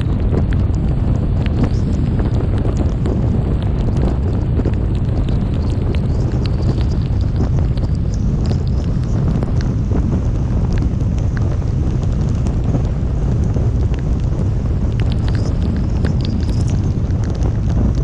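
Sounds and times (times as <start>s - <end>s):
heavy rain ticks: 0.0s - 18.0s
storm wind buffeting microphone: 0.0s - 18.0s.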